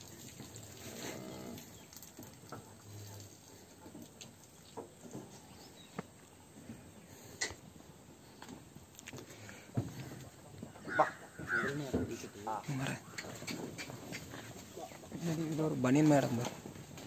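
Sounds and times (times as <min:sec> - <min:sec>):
cattle hoof steps: 0:00.0 - 0:17.0.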